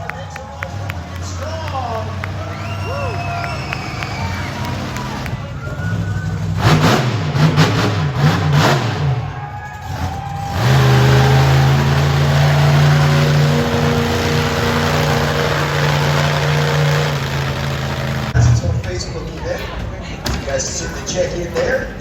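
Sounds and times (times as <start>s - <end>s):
truck engine revving: 0.0s - 18.6s.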